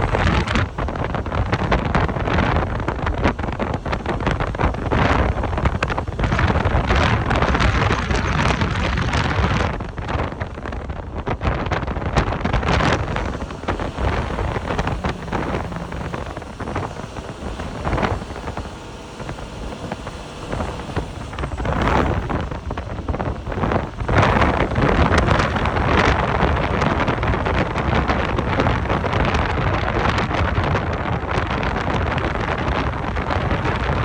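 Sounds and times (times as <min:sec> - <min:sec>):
low vehicle rumble: 0:00.0 - 0:34.0
wind buffeting microphone: 0:00.0 - 0:34.0.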